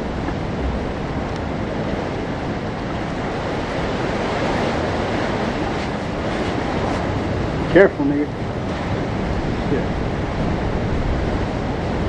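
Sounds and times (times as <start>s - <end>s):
ocean surf in a sea cave: 0.0s - 12.0s
wind: 0.0s - 12.0s.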